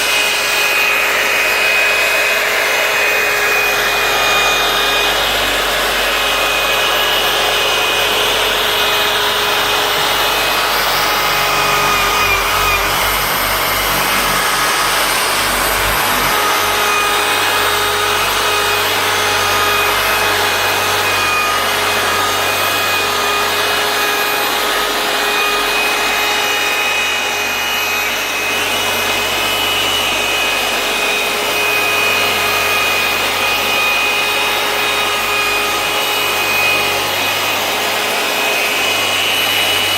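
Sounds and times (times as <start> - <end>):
power tool grinding: 0.0 - 39.9.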